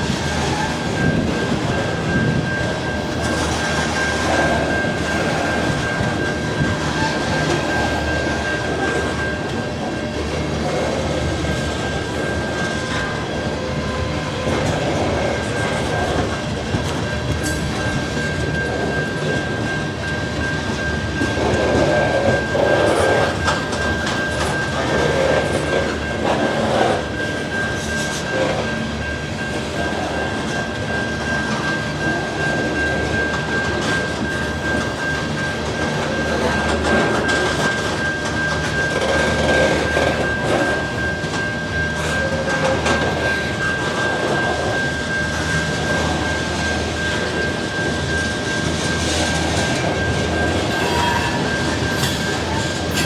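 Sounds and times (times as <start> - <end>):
train wheels clicking over rail joints: 0.0 - 53.0.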